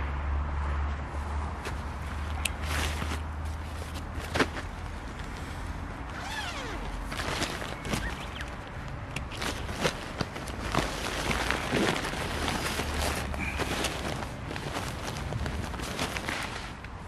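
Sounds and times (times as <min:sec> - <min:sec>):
camping gear clicks and knocks: 0:01.6 - 0:17.0.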